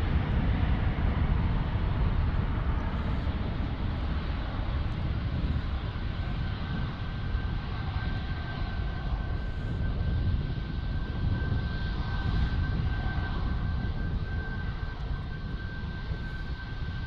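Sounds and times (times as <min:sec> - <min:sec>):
jet engines rumbling: 0:00.0 - 0:17.0
thin steady whine: 0:00.0 - 0:17.0.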